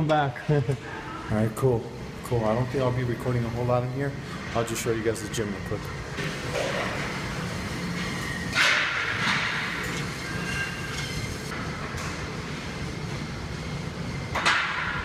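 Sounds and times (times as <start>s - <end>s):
treadmills rumbling and hissing: 0.0s - 15.0s.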